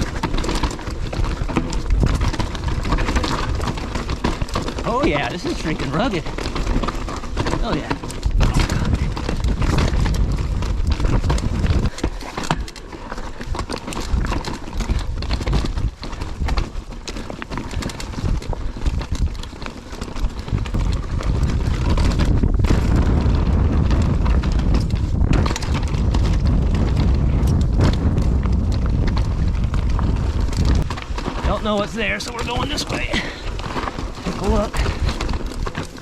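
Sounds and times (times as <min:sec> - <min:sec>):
bike clattering over rocks: 0:00.0 - 0:36.0
wind rumble on microphone: 0:00.0 - 0:36.0.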